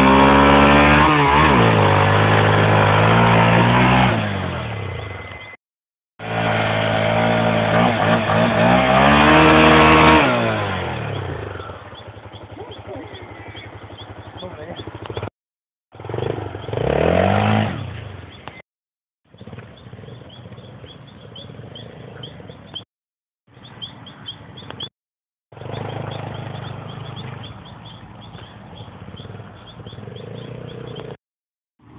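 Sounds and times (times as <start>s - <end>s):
motorcycle engine revving: 0.0s - 5.6s, 6.2s - 15.3s, 15.9s - 18.6s, 19.3s - 22.9s, 25.5s - 31.2s.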